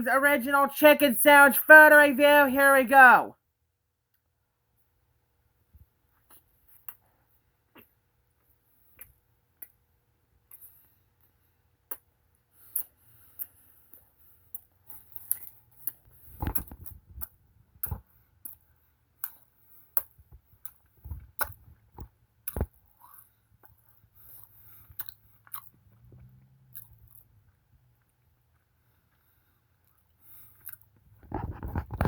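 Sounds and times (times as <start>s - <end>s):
person chewing food: 6.2s - 32.0s.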